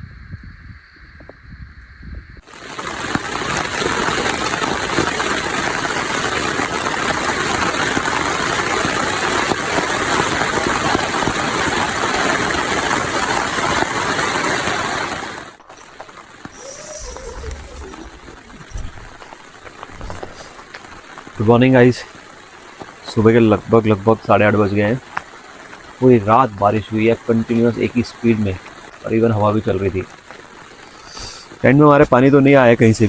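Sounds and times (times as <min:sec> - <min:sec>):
heavy rain drumming on a tent: 0:02.4 - 0:33.0.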